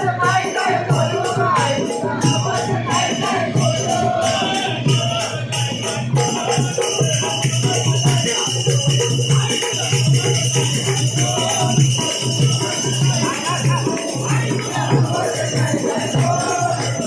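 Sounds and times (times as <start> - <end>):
devotional song: 0.0 - 17.0
jingling shaker percussion: 0.0 - 17.0
steady drum beat: 0.0 - 17.0.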